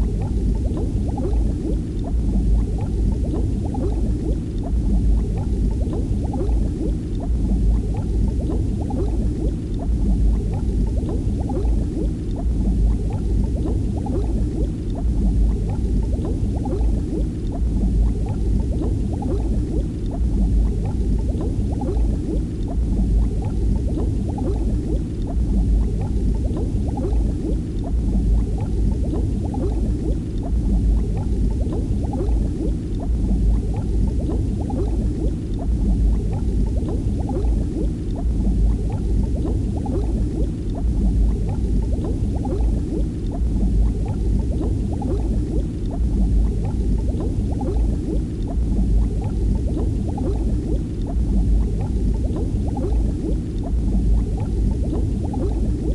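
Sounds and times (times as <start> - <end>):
steady deep rumble: 0.0 - 55.9
water bubbling and gurgling: 0.0 - 55.9.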